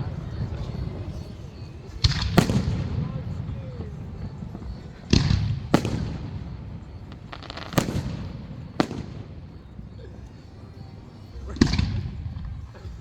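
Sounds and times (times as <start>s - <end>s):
faint fireworks crackling: 0.0s - 13.0s
fireworks bursting with echo: 0.0s - 13.0s.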